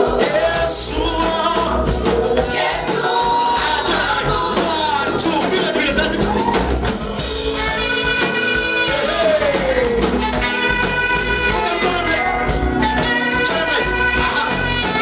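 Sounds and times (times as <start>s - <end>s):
instrumental accompaniment: 0.0s - 15.0s
praise team singing: 0.0s - 15.0s
steady percussion beat: 0.0s - 15.0s.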